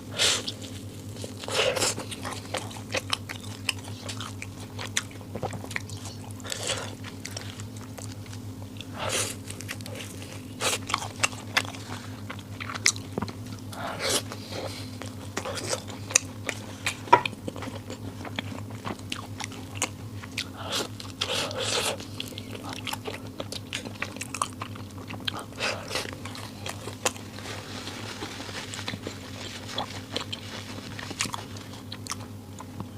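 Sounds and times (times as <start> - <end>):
steady low hum: 0.0 - 32.9
person biting and chewing: 0.1 - 32.9.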